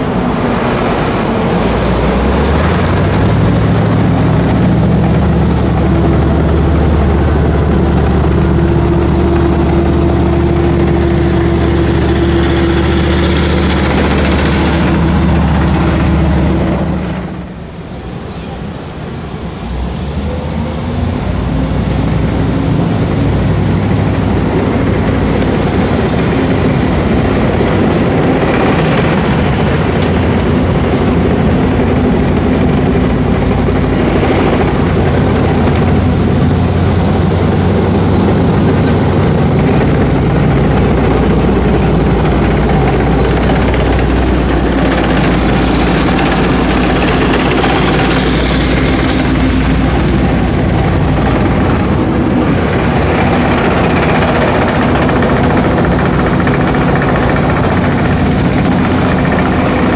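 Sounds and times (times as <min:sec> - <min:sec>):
high whine gliding in pitch: 0:00.0 - 0:59.9
tank diesel engine running: 0:00.0 - 0:59.9.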